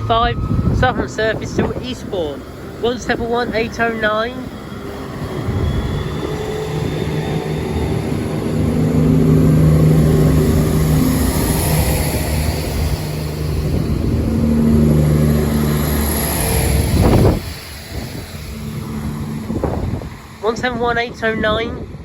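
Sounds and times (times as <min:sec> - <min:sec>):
diesel train engines droning: 0:00.0 - 0:22.0.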